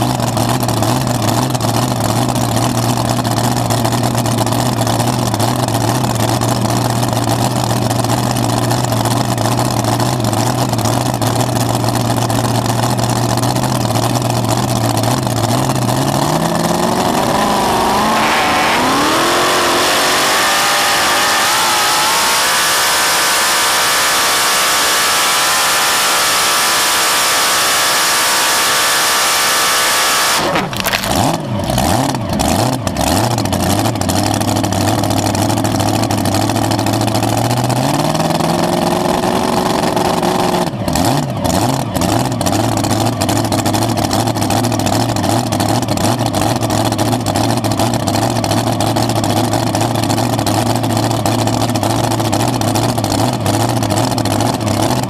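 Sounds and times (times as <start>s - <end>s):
pulling tractor engine revving: 0.0s - 55.0s.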